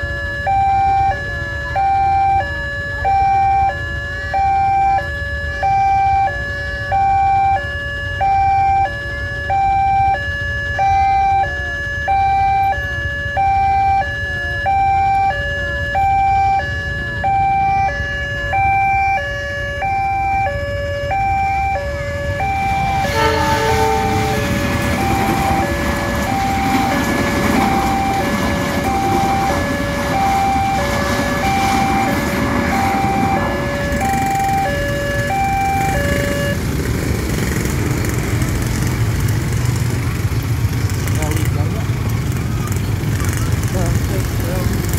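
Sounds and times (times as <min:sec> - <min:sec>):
level crossing two-tone alarm: 0:00.0 - 0:36.7
passing train rumble: 0:07.1 - 0:44.9.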